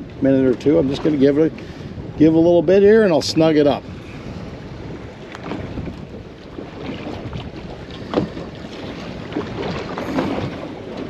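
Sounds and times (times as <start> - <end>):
water sloshing against hull: 0.0 - 11.0
wind buffeting microphone: 0.0 - 11.0.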